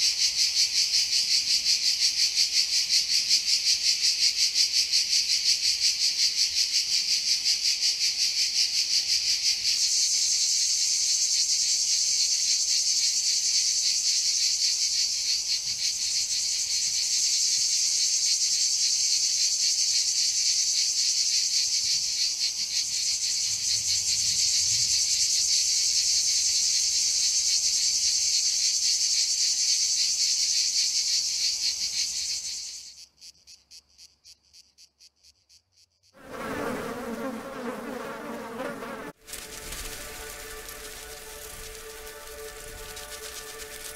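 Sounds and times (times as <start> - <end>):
chorus of chirring insects: 0.0 - 43.9.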